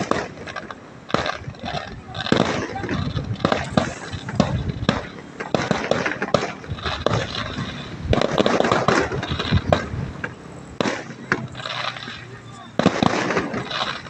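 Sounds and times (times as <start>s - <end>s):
continuous rushing noise: 0.0s - 14.0s
fireworks bangs and crackles: 0.0s - 14.0s.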